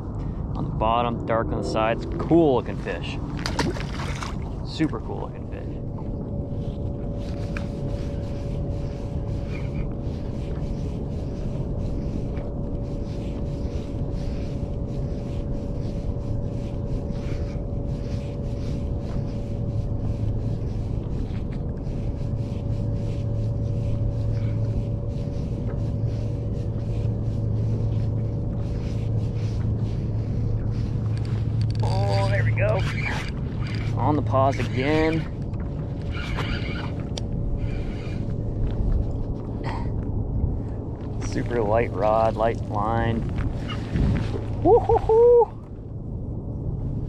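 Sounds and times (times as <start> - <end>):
distant motor hum: 0.0 - 47.0
low rumble: 0.0 - 47.0.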